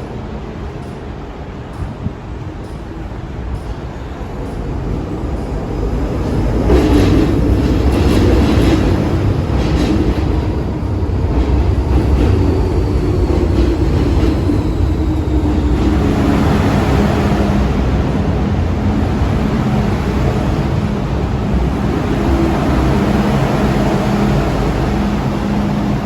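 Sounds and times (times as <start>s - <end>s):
metro train running through station: 0.0s - 26.0s.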